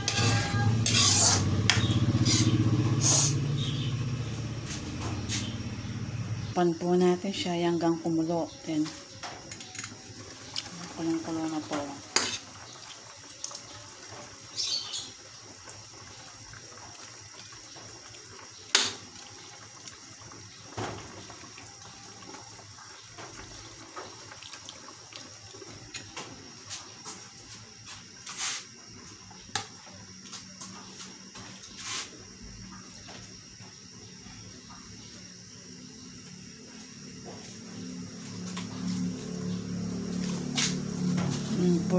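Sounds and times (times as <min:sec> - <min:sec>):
broth simmering in a wok: 0:00.0 - 0:41.9.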